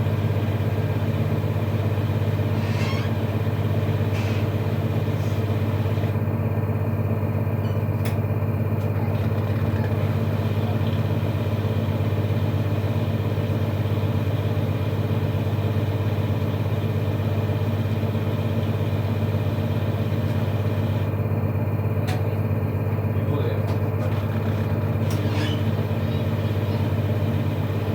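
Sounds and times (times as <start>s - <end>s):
washing machine spinning: 0.0s - 27.9s.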